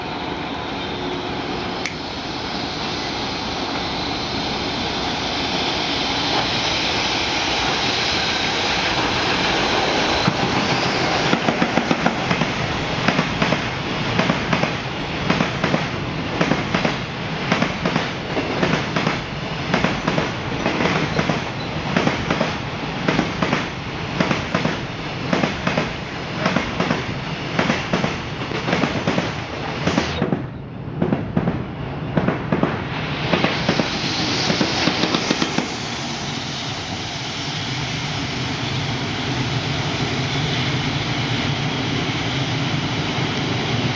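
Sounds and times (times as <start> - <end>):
train rolling noise: 0.0 - 43.9.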